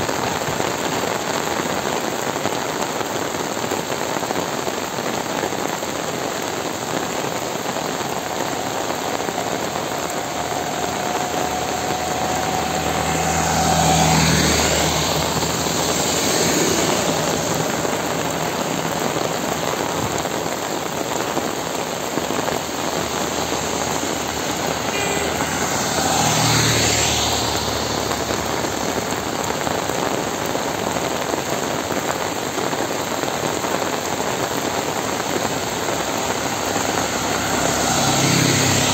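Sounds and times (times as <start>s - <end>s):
heavy rain: 0.0s - 38.9s
vehicles passing on wet road: 0.0s - 38.9s.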